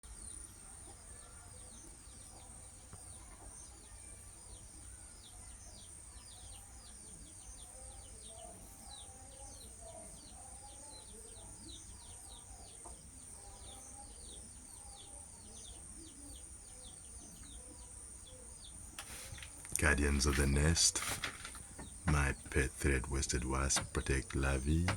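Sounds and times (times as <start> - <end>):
baby chicks peeping: 0.1 - 24.9.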